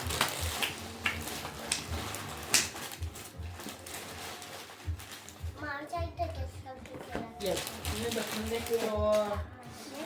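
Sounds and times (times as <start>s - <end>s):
wrapping paper rustling: 0.0s - 6.5s, 7.1s - 10.0s.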